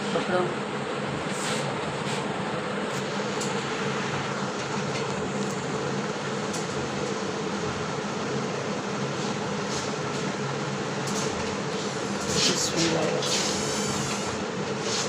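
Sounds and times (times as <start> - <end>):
fan hum with hiss: 0.0 - 15.0.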